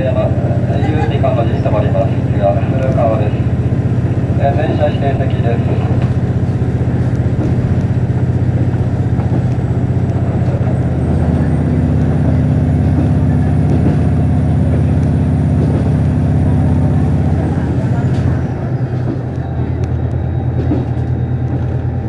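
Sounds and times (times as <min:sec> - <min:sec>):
diesel railcar engine drone: 0:00.0 - 0:22.0.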